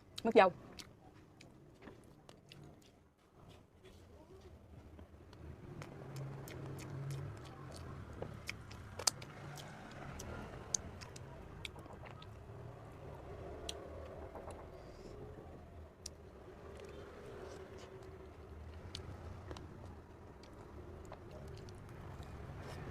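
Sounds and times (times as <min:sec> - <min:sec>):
chewing soft cake: 0:00.1 - 0:04.5, 0:05.3 - 0:15.2, 0:16.0 - 0:22.9.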